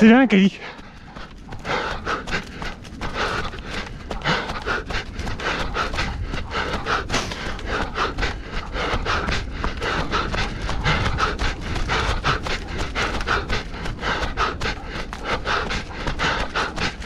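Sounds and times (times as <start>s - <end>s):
footfalls on a trail: 0.0s - 17.0s
hard panting breaths: 0.0s - 17.0s.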